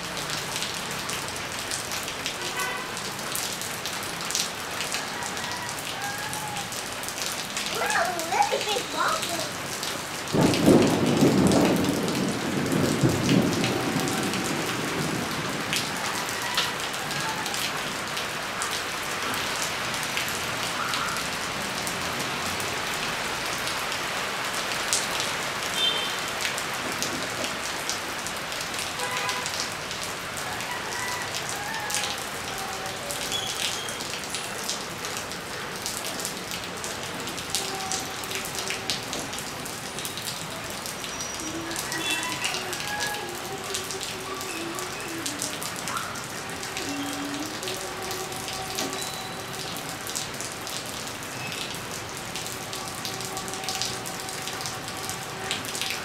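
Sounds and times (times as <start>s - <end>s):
rain on concrete: 0.0s - 56.0s.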